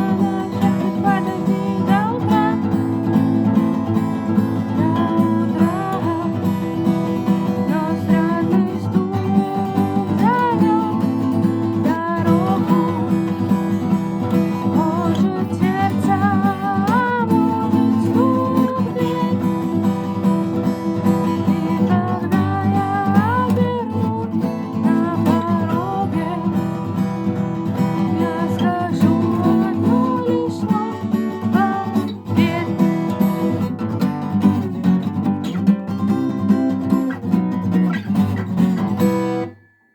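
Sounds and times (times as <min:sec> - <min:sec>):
person singing: 0:00.0 - 0:33.8
acoustic guitar strumming: 0:00.0 - 0:39.9.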